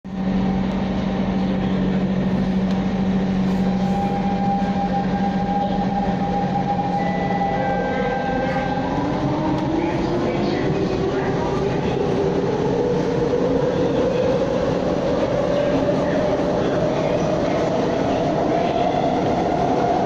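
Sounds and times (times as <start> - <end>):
train rumble: 0.1 - 20.0.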